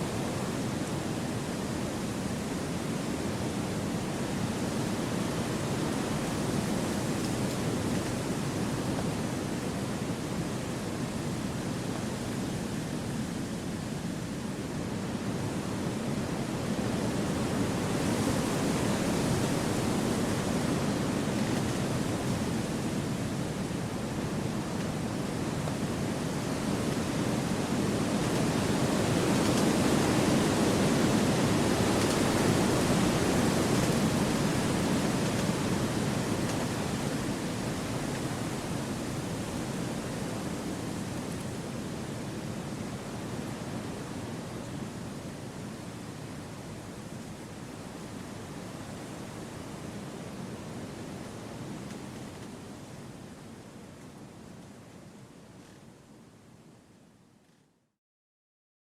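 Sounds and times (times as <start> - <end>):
wind through trees: 0.0 - 57.6.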